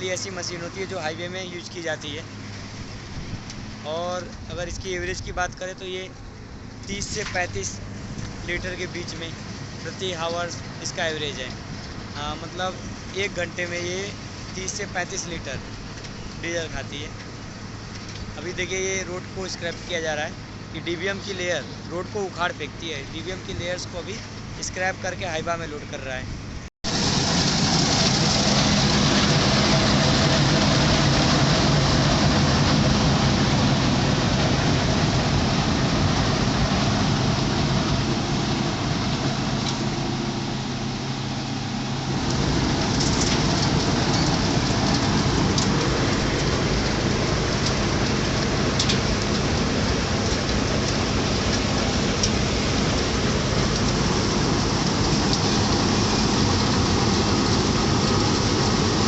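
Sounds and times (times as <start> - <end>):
diesel engine humming: 0.0 - 59.0
milling drum grinding asphalt: 0.0 - 59.0.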